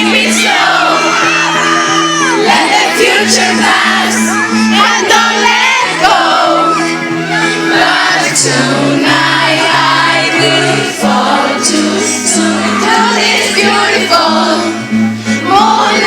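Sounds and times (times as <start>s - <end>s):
choir of voices: 0.0s - 16.0s
person singing: 0.0s - 16.0s.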